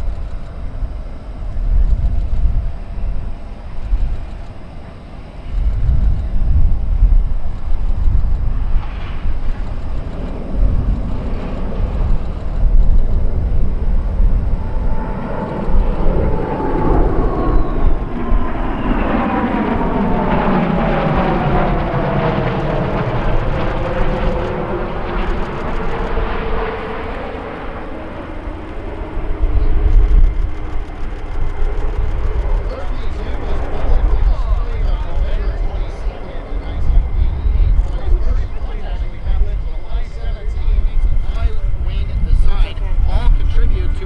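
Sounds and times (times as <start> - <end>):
jet engines flyby: 0.0 - 44.0
wind buffeting microphone: 0.0 - 44.0.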